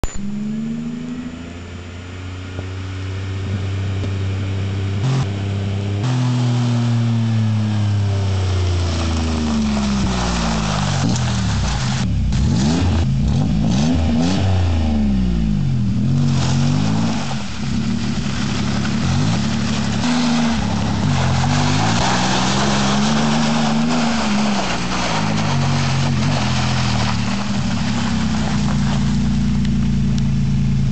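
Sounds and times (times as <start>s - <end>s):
pickup engine revving: 0.1s - 30.9s.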